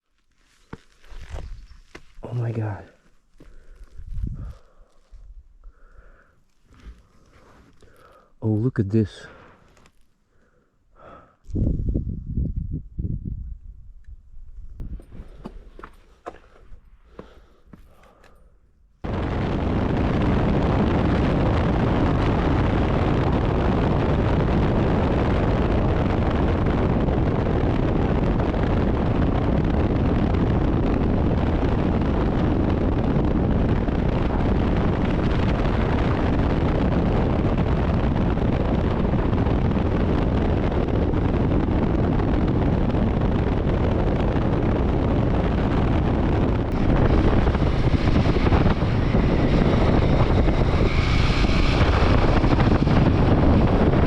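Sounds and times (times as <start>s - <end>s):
wind rushing over microphone: 1.0s - 9.4s, 11.0s - 16.9s, 19.0s - 54.0s.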